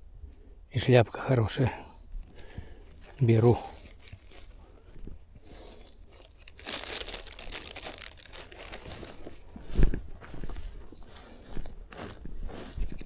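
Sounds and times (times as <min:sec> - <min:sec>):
crinkling rustling handling noise: 0:02.1 - 0:13.0.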